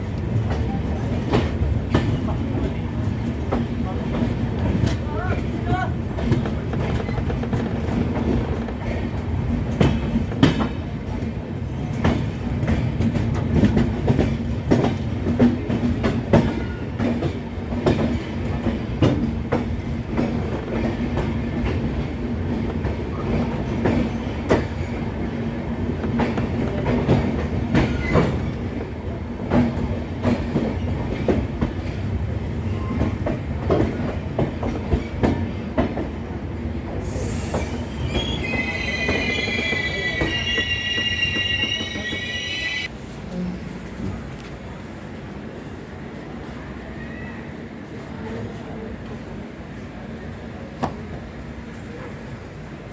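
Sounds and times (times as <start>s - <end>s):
train wheels clattering: 0.0s - 42.9s
train rumble and hum: 0.0s - 52.9s.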